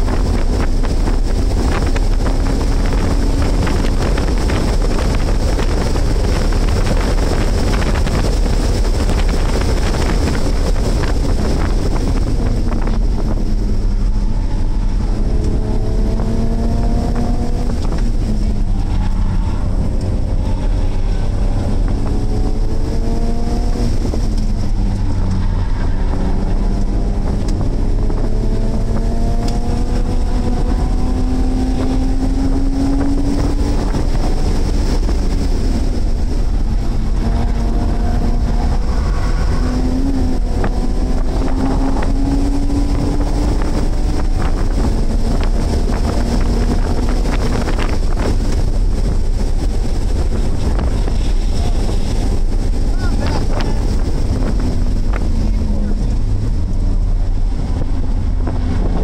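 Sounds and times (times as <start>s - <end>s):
car engine accelerating: 0.0s - 59.0s
wind and road noise: 0.0s - 59.0s.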